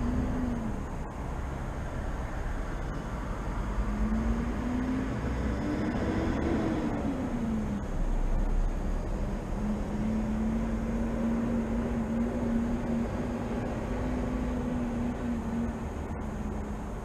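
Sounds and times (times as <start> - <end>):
city background hum: 0.0 - 17.0.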